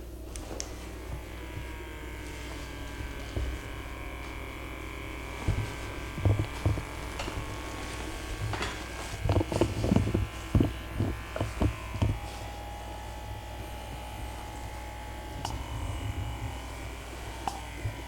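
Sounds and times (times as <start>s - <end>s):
small electric motor buzzing: 0.0s - 18.0s
dull thumps: 1.0s - 18.0s.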